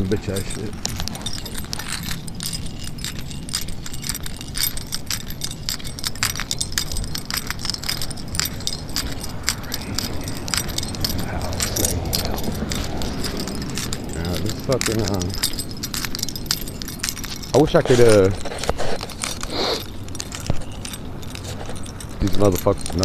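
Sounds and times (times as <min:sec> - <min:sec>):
small hard objects rattling: 0:00.0 - 0:23.0
steady low rumble: 0:00.0 - 0:23.0.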